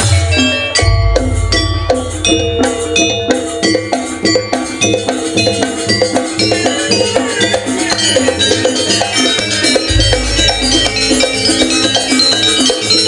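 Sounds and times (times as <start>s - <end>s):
bells ringing: 0.0s - 13.0s
gamelan metal keyed instruments: 0.0s - 13.0s.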